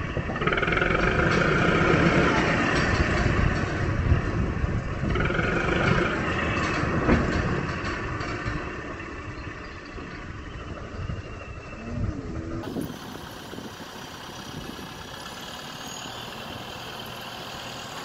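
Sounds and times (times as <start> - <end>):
tractor diesel engine running: 0.0 - 11.6, 12.3 - 18.0.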